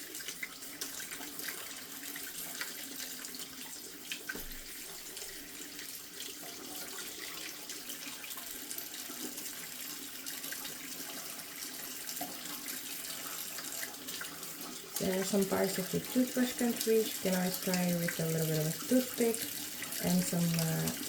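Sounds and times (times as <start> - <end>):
tap water running into sink: 0.0 - 21.0.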